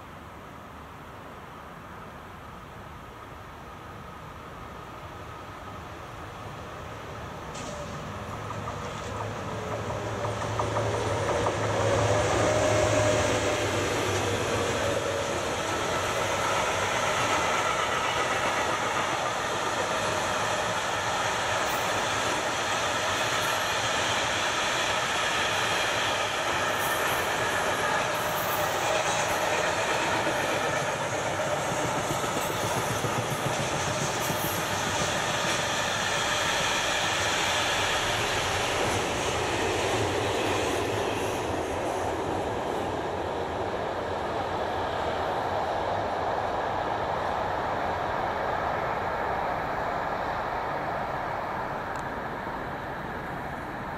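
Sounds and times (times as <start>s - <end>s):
freight train passing: 0.0s - 53.9s.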